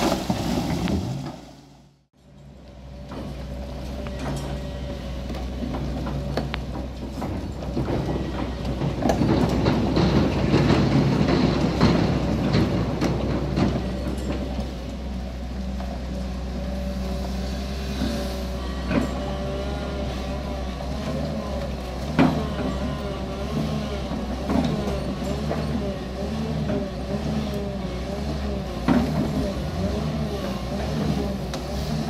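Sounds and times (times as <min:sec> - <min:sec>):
excavator diesel engine working: 0:02.2 - 0:32.0.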